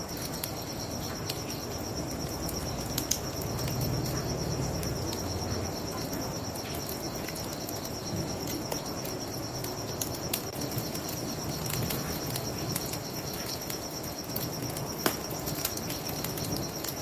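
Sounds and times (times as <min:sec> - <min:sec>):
crickets chirping: 0:00.0 - 0:17.0
wood fire crackling: 0:00.0 - 0:17.0.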